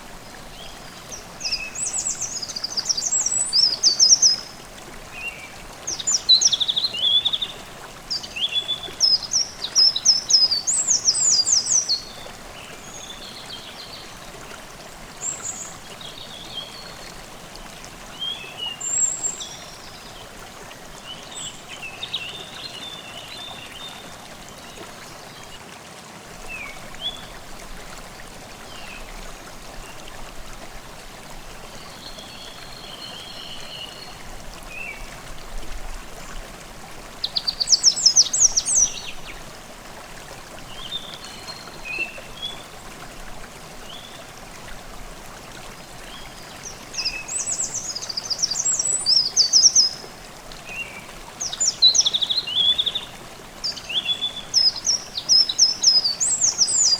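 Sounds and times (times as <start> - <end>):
stream babbling: 0.0 - 56.9.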